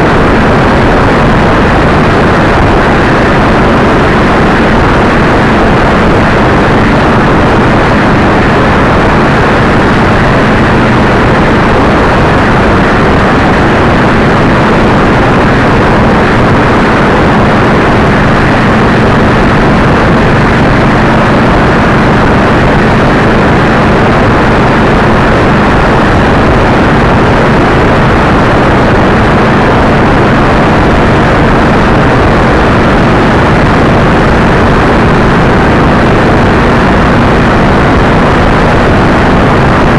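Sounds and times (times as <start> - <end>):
low engine hum: 0.0 - 39.9
wind buffeting microphone: 0.0 - 39.9.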